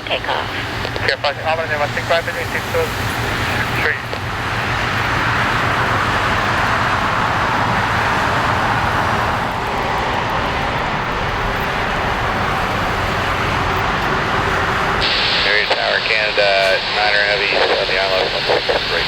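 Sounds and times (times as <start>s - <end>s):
jet engines roaring at takeoff: 0.0s - 19.0s.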